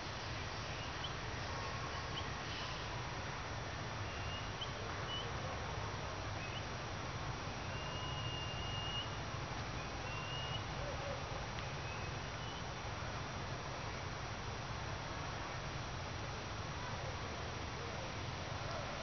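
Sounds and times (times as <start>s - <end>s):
low rumble and hiss: 0.0s - 19.0s.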